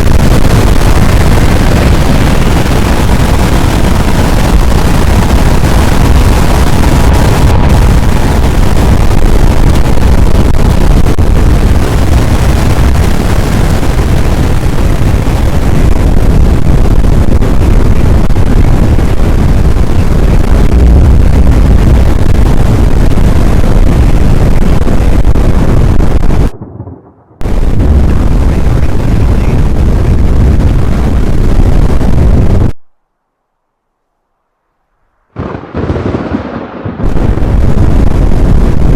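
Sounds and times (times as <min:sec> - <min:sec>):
wind buffeting microphone: 0:00.0 - 0:32.8, 0:35.4 - 0:38.9.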